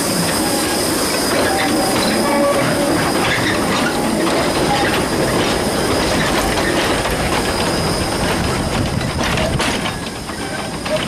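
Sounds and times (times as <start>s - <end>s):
train wheels clicking over rail joints: 0.0s - 11.0s.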